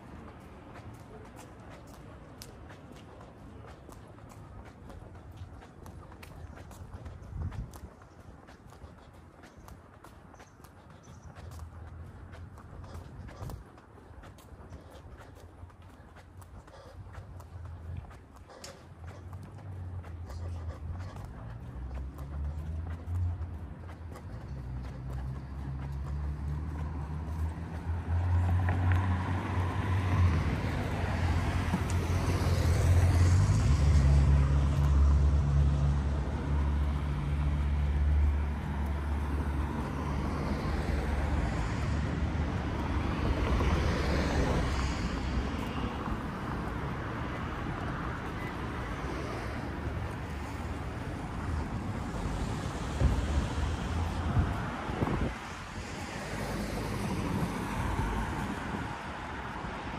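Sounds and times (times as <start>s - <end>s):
vehicles passing on street: 0.0s - 59.9s.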